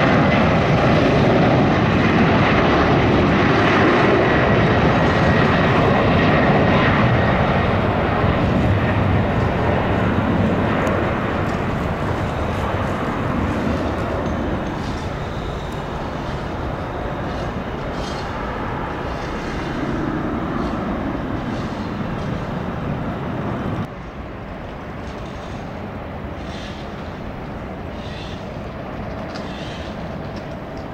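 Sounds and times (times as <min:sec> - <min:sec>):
jet engines at takeoff: 0:00.0 - 0:30.9.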